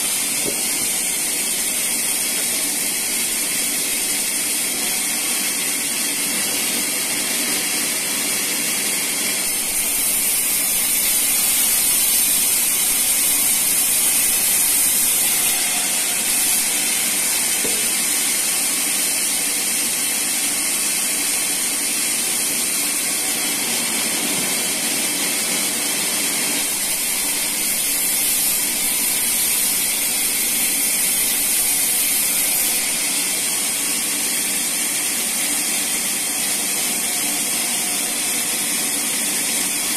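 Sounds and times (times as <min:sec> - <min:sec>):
band sawmill whirring: 0:00.0 - 0:39.9.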